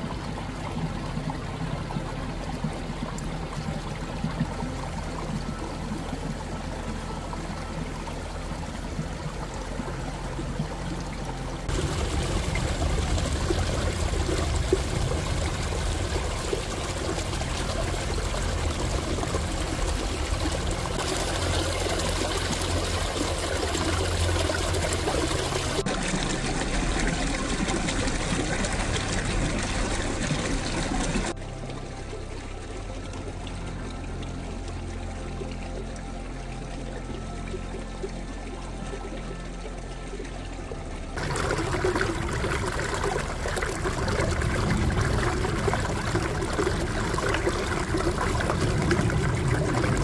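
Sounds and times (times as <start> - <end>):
stream pouring over rocks: 0.0 - 50.0.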